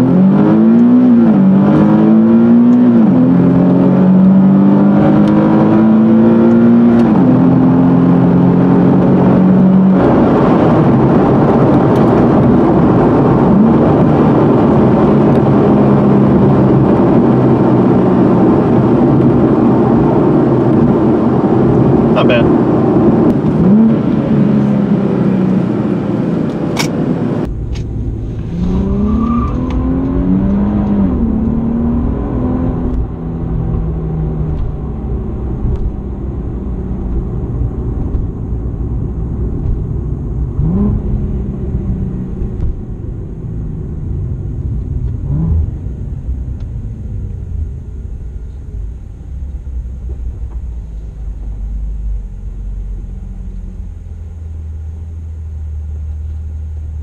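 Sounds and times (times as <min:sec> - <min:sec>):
car engine revving: 0:00.0 - 0:57.0
engine and road noise rumble: 0:00.0 - 0:57.0.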